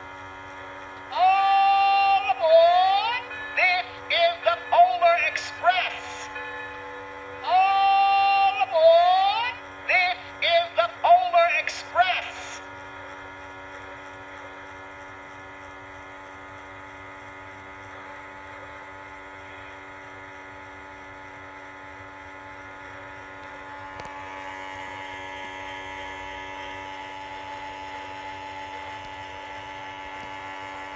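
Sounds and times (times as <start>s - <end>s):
toy train motor humming: 0.0s - 30.9s.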